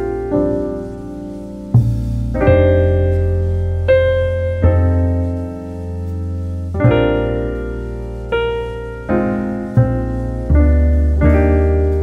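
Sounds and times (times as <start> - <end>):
slow jazz piano chords: 0.0 - 12.0.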